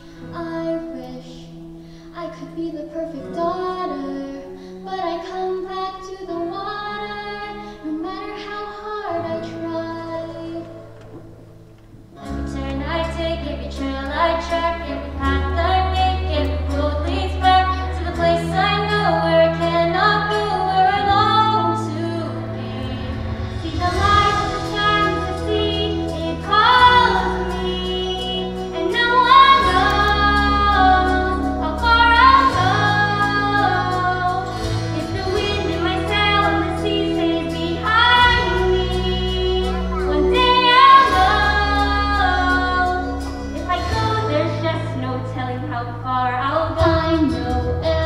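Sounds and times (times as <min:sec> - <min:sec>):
woman singing: 0:00.0 - 0:11.0, 0:12.2 - 0:48.0
instrumental accompaniment: 0:00.0 - 0:48.0.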